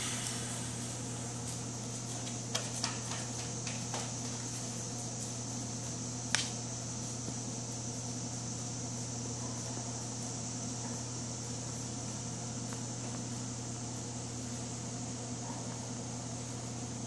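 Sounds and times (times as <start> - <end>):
room tone hum and hiss: 0.0 - 17.0.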